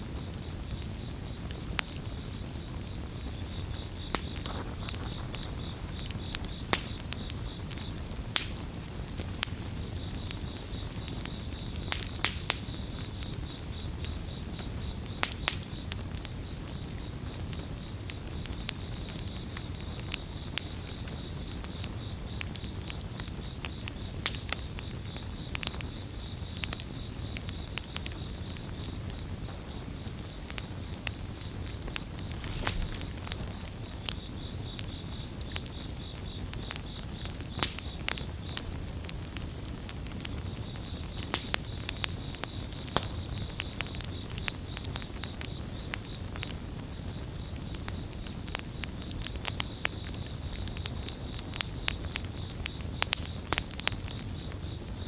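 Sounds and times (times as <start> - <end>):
campfire crackling: 0.0 - 55.0
crickets chirping: 0.0 - 55.0.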